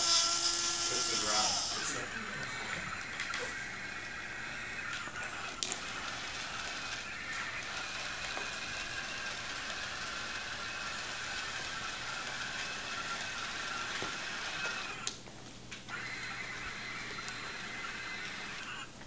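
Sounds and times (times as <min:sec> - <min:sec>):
electric motors whirring: 0:00.0 - 0:15.2, 0:15.9 - 0:19.0.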